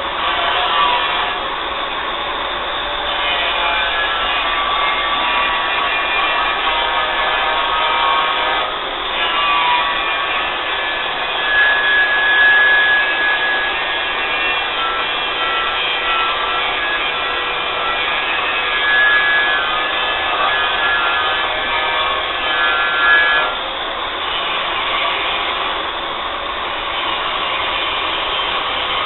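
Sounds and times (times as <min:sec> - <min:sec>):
grinder rasping on steel: 0:00.0 - 0:25.8.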